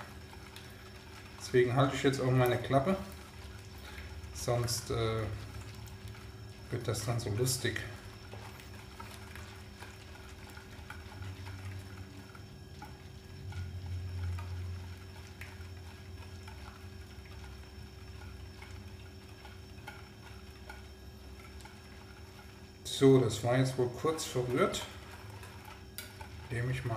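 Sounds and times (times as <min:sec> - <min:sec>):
steady low hum: 0:00.0 - 0:26.9
whisk sloshing liquid: 0:00.0 - 0:26.9
whisk ticking against bowl: 0:00.0 - 0:26.9.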